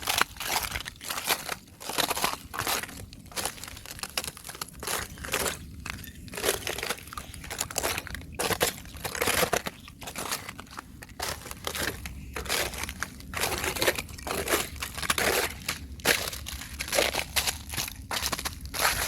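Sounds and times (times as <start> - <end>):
thin ice crunching and cracking: 0.0 - 19.0.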